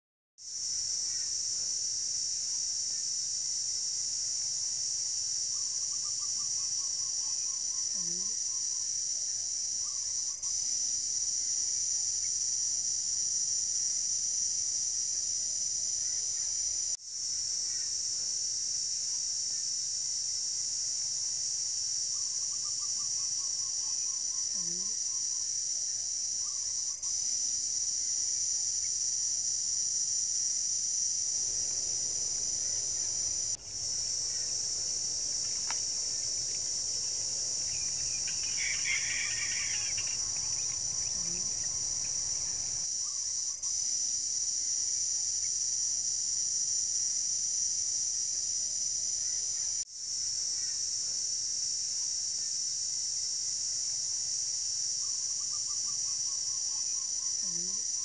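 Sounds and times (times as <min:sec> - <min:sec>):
high-pitched insect chorus: 0:00.4 - 0:58.0.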